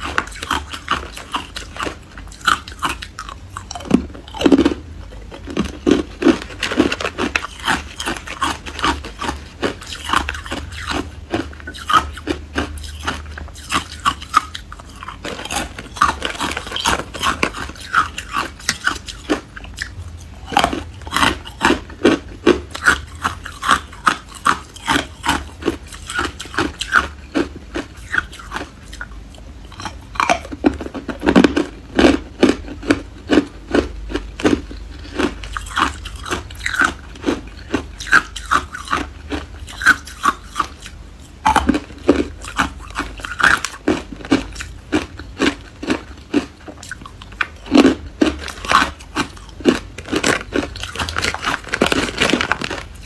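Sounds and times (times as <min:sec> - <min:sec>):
ice cubes crunching: 0:00.0 - 0:29.1, 0:29.7 - 0:53.0.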